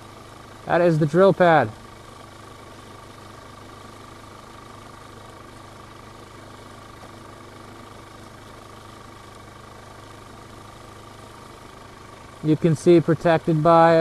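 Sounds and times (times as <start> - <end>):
engine hum with high whine: 0.0 - 14.0.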